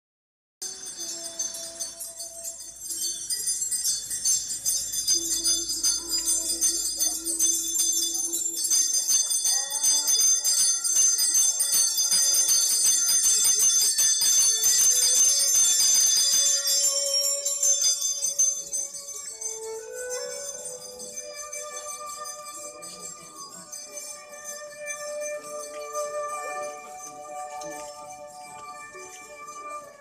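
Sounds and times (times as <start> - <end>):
hand bells jingling: 0.6 - 30.0.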